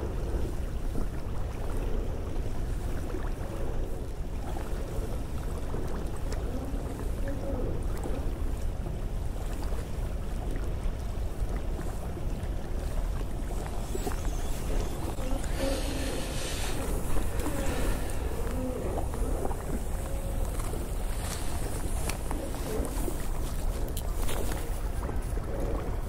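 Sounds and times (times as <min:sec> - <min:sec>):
water lapping: 0:00.0 - 0:26.0
wind on microphone: 0:00.0 - 0:26.0.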